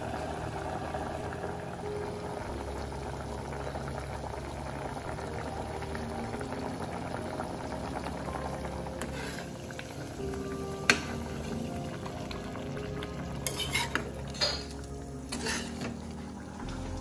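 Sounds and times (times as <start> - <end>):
curry bubbling with pops: 0.0 - 16.7.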